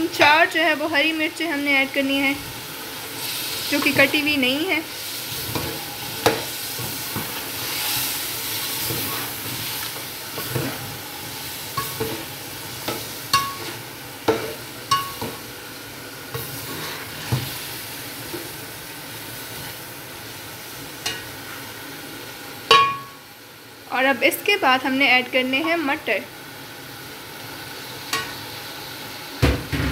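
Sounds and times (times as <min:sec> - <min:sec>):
food sizzling in a pot: 0:00.0 - 0:29.9.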